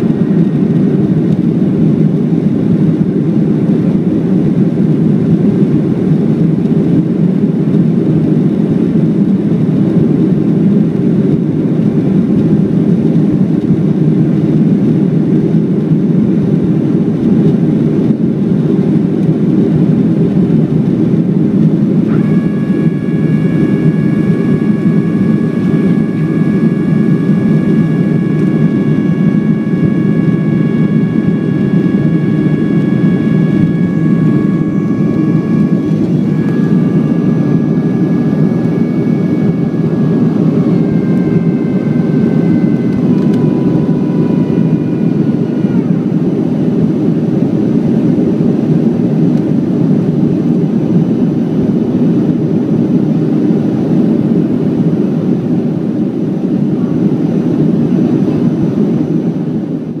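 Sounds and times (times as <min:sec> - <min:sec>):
high jet engine whine: 0:00.0 - 1:00.0
low roar of airliner cabin: 0:00.0 - 1:00.0.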